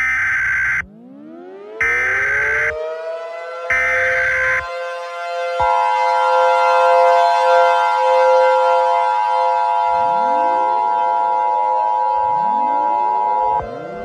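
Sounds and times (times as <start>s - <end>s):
emergency siren: 0.0s - 14.0s.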